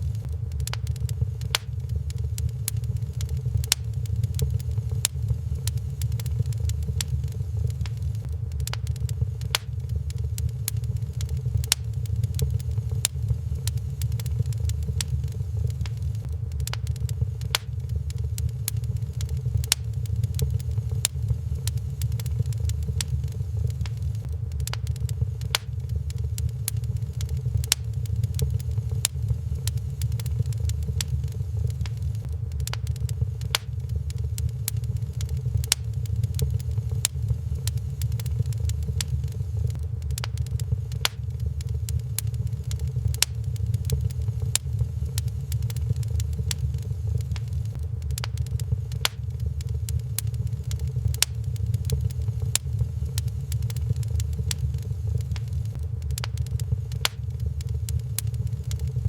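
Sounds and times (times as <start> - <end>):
low rumble: 0.0 - 59.0
wood fire crackling: 0.0 - 59.0.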